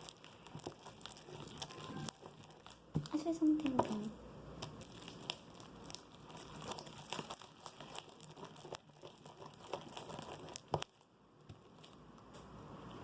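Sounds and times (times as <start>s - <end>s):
slime crackling and clicking: 0.0s - 12.0s.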